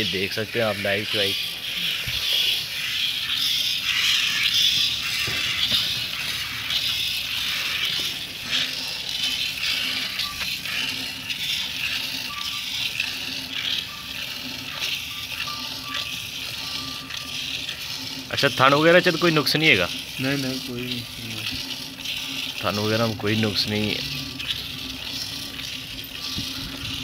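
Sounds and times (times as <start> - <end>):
milk squirting into plastic pail: 0.0 - 27.0.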